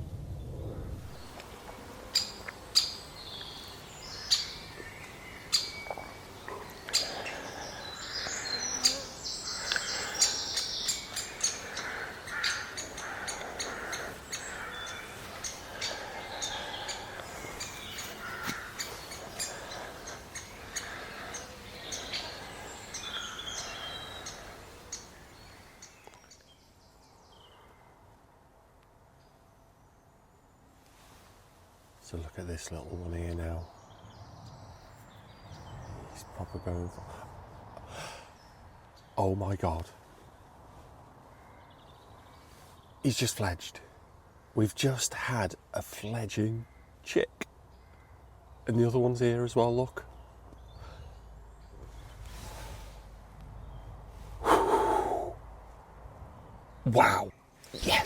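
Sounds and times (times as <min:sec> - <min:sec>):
birds calling and chirping: 0:01.0 - 0:28.0, 0:32.1 - 0:58.0.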